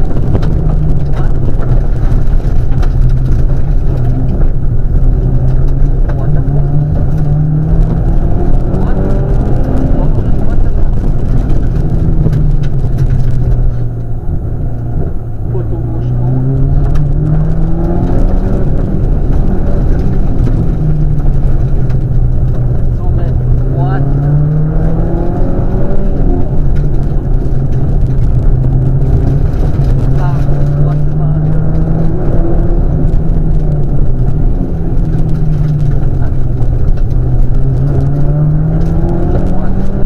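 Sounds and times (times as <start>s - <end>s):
rally car engine at high revs: 0.0s - 40.0s
road and wind noise: 0.0s - 40.0s.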